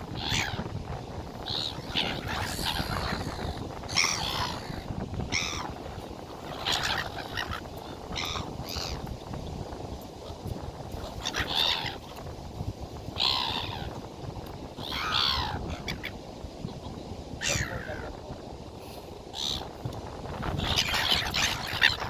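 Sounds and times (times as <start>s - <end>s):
birds calling harshly: 0.0s - 12.3s, 13.1s - 18.3s, 19.2s - 22.0s.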